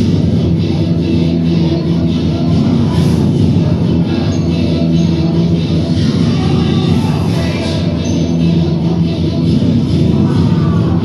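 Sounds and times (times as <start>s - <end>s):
dance music over loudspeakers: 0.0s - 11.0s.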